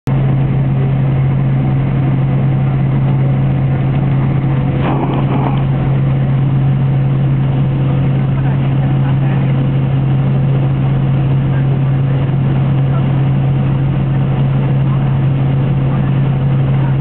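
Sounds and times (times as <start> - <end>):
jet engine drone in cabin: 0.1 - 17.0.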